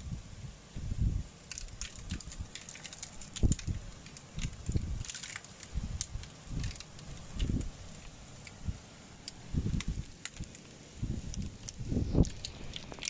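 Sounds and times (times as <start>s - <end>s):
hailstones striking hard surfaces: 1.4s - 8.6s, 9.2s - 13.0s.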